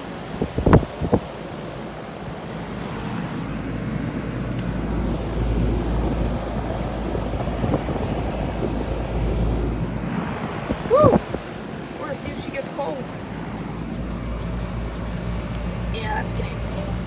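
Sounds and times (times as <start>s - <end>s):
air conditioner unit running: 0.0s - 17.0s.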